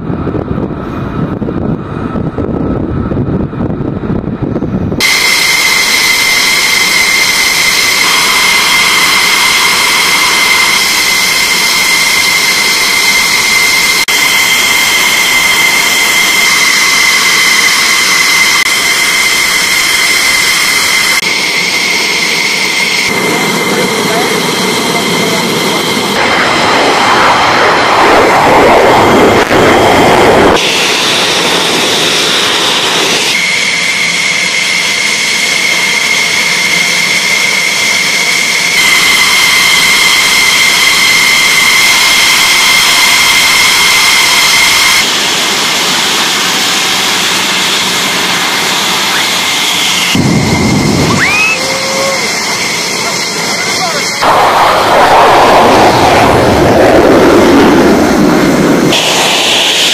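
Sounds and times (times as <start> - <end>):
jet engine whine and rush: 0.0 - 59.9.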